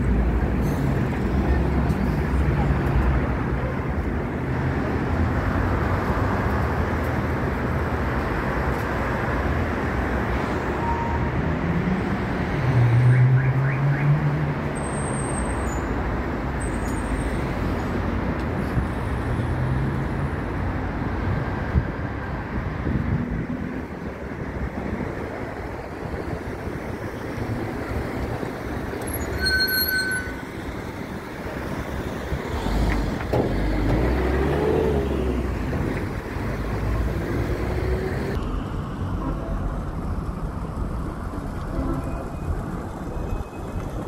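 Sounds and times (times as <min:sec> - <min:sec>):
passing cars: 0:00.0 - 0:44.0.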